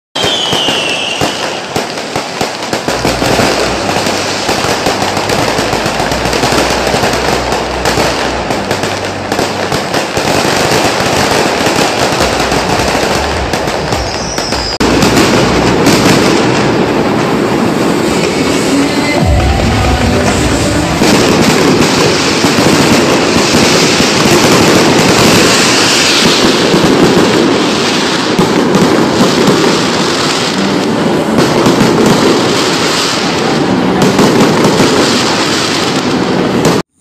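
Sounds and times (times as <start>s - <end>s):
firework whistle: 0.2s - 37.0s
fireworks crackling: 0.2s - 37.0s.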